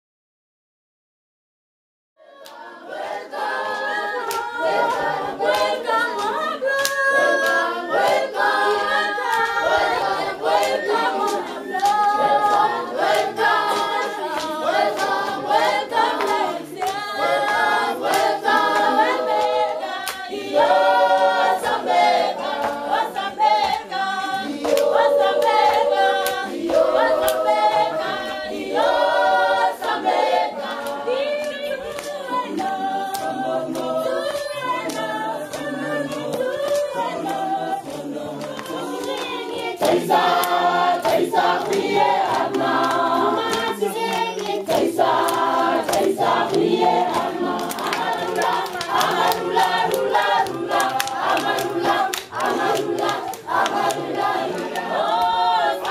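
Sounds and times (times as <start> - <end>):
children and women singing: 2.2 - 55.9
hand clapping: 2.4 - 55.9.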